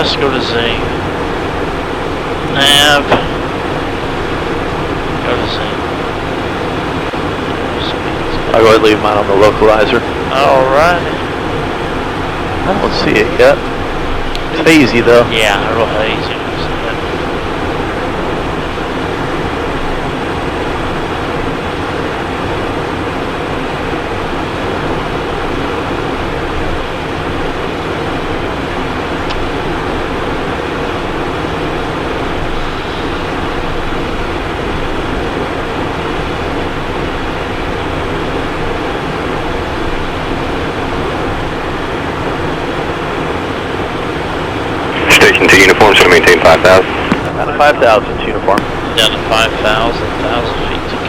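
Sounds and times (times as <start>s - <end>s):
airflow rushing over airframe: 0.0s - 51.0s
jet engines running: 0.0s - 51.0s.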